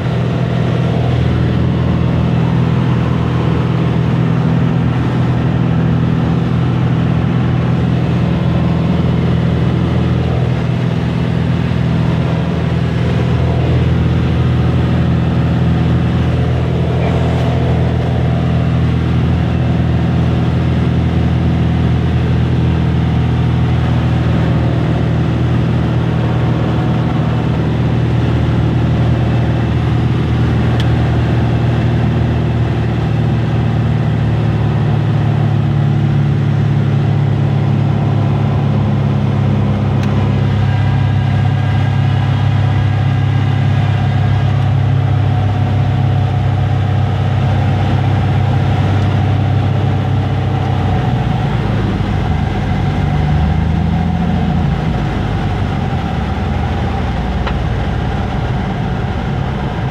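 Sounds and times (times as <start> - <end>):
propeller airplane engine drone: 0.0 - 59.9.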